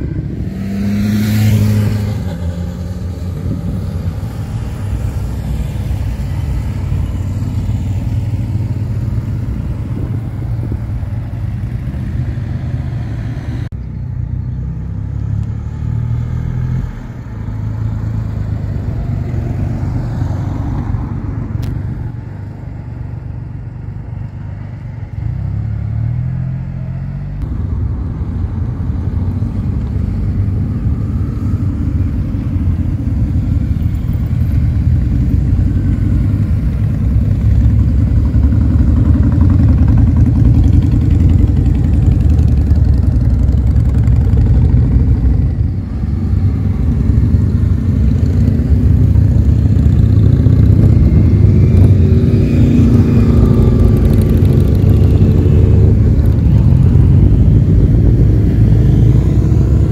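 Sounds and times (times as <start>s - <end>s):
motorcycles riding past: 0.0s - 59.9s.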